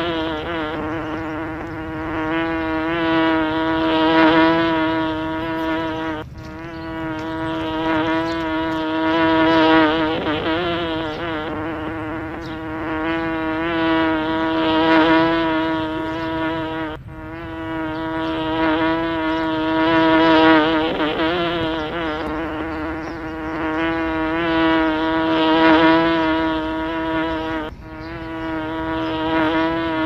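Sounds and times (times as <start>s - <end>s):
bee buzzing: 0.0s - 30.0s.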